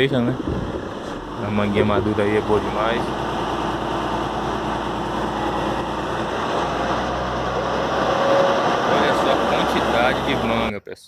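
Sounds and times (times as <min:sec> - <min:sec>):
truck engine droning: 0:00.0 - 0:10.7.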